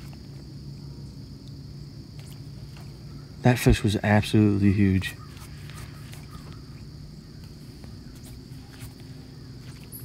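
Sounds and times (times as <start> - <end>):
insects droning: 0.0 - 10.0
low steady hum: 0.0 - 10.0.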